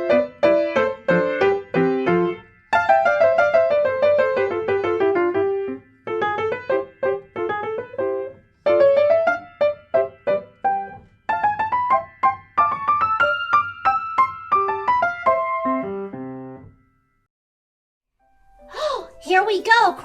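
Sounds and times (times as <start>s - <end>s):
solo piano melody: 0.0s - 17.3s.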